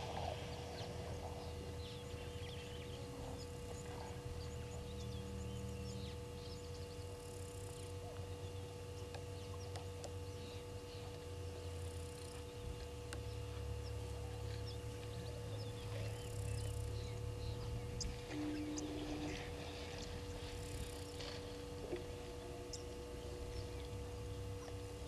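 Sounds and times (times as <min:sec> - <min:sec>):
constant hum: 0:00.0 - 0:25.0.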